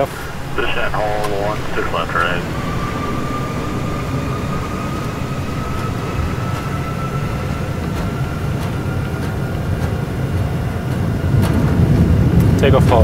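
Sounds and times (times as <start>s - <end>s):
jet engines rumbling: 0.0s - 13.0s
thin engine whine rising: 0.0s - 13.0s
wheels rumbling on runway: 0.0s - 13.0s.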